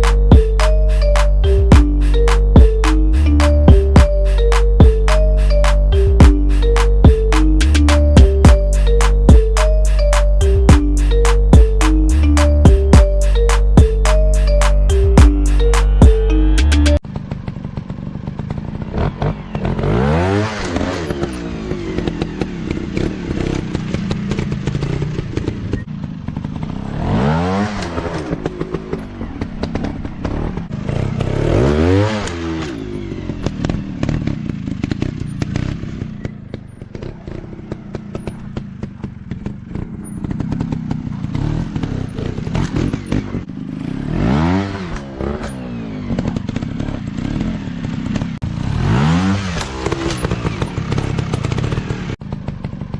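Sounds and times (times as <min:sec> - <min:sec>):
dirt bike engine revving: 0:00.0 - 0:52.8.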